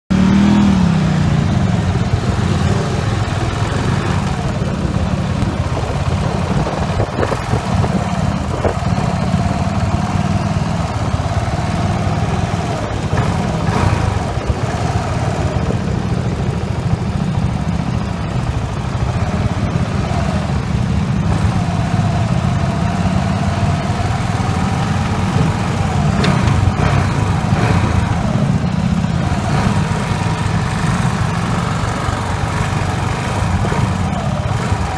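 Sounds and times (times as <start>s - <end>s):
motorcycle engine running at low speed: 0.1s - 34.9s.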